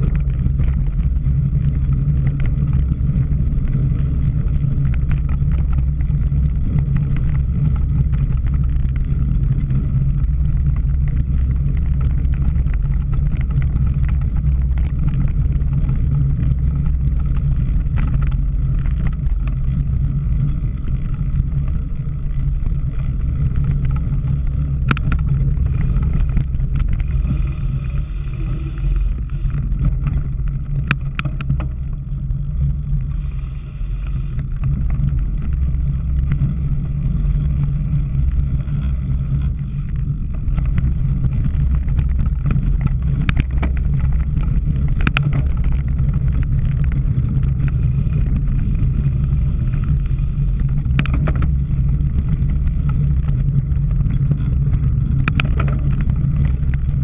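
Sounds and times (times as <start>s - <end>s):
bike clicks and knocks: 0.0s - 33.3s, 34.1s - 57.0s
wind buffeting microphone: 0.0s - 57.0s.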